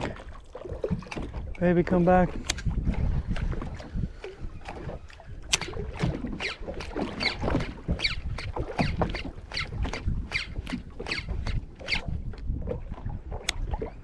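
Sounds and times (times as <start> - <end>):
water splashing against boat hull: 0.0 - 14.0.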